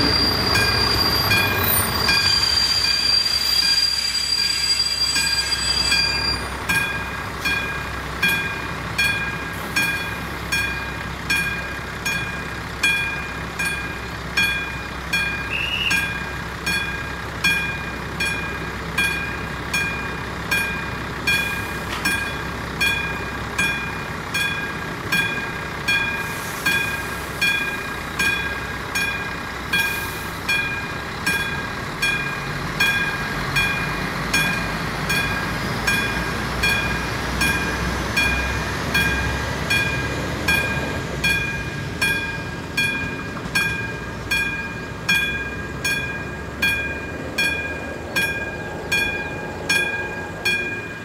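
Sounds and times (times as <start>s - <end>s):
crossing warning bell ringing: 0.0s - 51.0s
squealing train wheels: 0.0s - 51.0s
train running noise: 0.0s - 51.0s.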